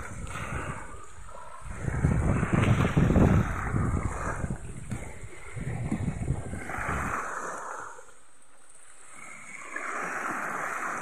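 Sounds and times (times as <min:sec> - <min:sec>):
small waves washing on beach: 0:00.0 - 0:11.0
wind rumble on microphone: 0:00.0 - 0:11.0.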